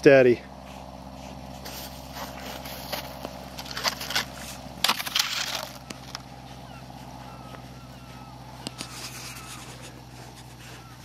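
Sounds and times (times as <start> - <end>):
steady low hum: 0.0 - 11.0
crunching on packed snow: 0.6 - 11.0.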